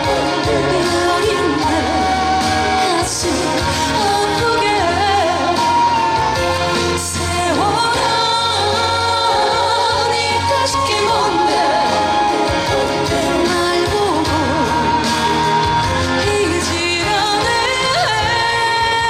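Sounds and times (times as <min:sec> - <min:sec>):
amplified pop accompaniment: 0:00.0 - 0:19.0
woman singing: 0:00.0 - 0:19.0.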